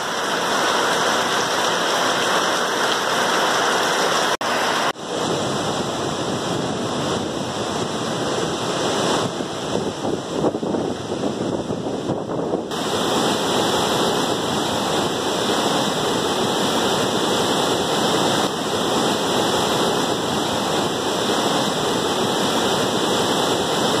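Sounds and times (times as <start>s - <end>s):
waterfall rushing: 0.0s - 11.2s, 12.7s - 24.0s.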